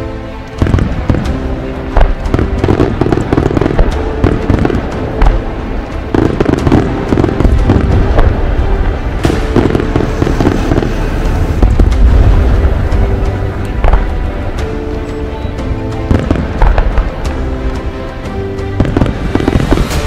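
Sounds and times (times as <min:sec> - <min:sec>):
fireworks bursting: 0:00.6 - 0:14.7, 0:16.0 - 0:17.5, 0:18.8 - 0:20.0.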